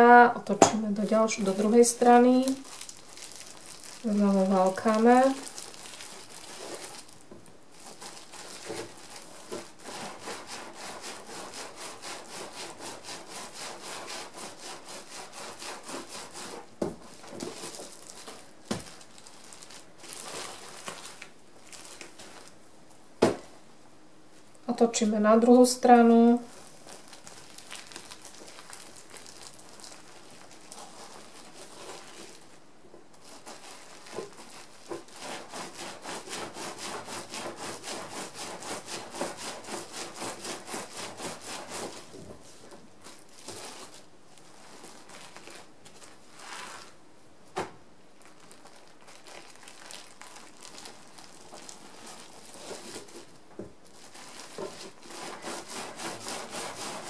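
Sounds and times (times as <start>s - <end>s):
bubble wrap crinkle: 0.0s - 23.6s, 26.0s - 57.0s.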